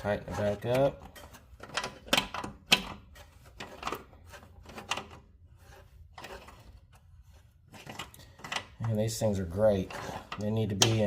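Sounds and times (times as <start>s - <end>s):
pliers scraping and clicking on screw: 0.0s - 11.0s.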